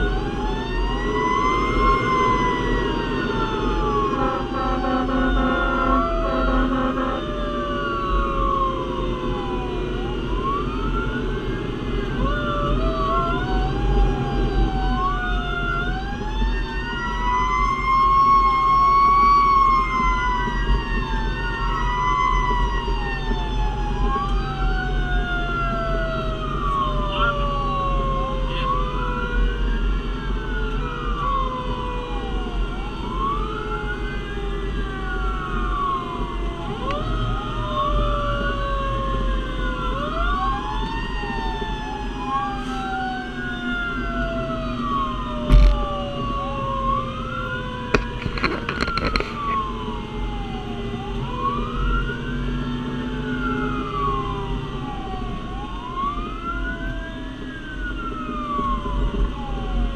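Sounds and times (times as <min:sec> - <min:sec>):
fire engine siren wailing: 0:00.0 - 0:59.9
lower siren tone sliding down: 0:00.0 - 0:59.9
truck engine and road rumble: 0:00.0 - 0:59.9.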